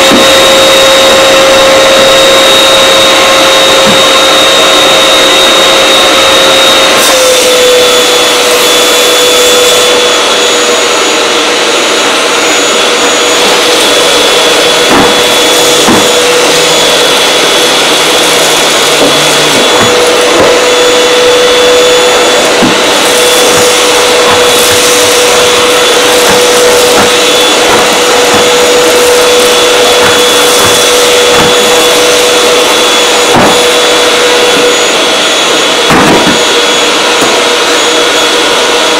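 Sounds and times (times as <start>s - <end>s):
nozzle pushed over carpet: 0.0s - 38.3s
vacuum cleaner motor whine: 0.0s - 38.9s.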